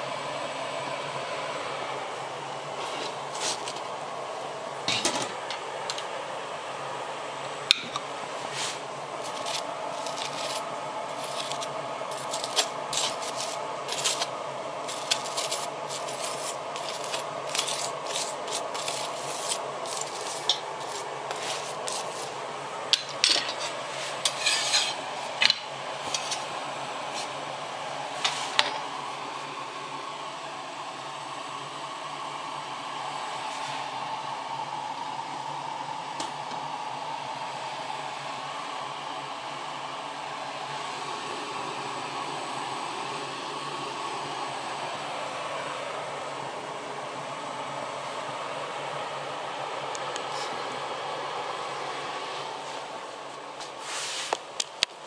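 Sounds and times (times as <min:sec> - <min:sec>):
gas burner hiss: 0:00.0 - 0:47.2, 0:48.0 - 0:55.0.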